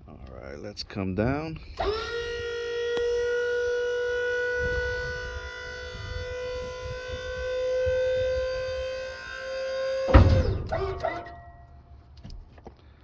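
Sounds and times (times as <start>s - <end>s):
hydraulic pump whining: 1.6s - 12.8s.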